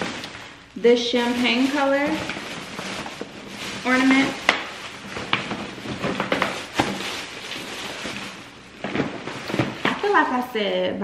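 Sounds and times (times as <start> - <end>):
plastic bags rustling: 0.0 - 10.8.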